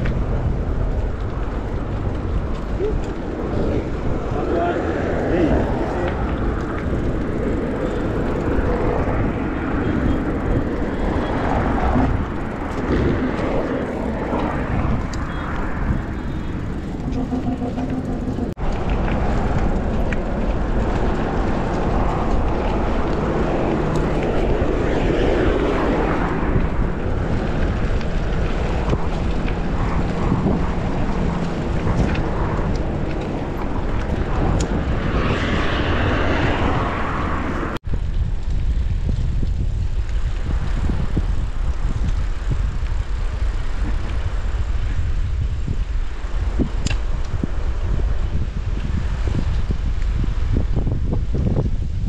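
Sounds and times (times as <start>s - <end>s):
wind noise on microphone: 0.0s - 52.0s.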